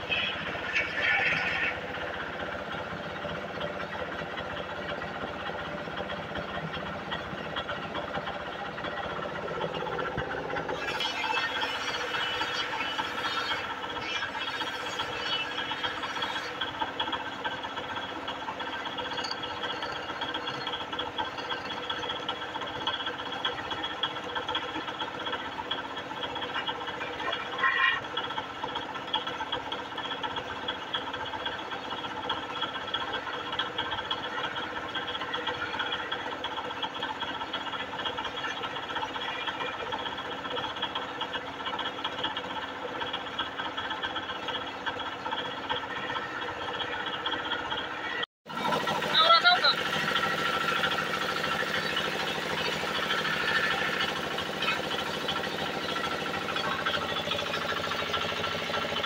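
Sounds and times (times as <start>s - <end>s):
wood lathe humming: 0.0s - 59.0s.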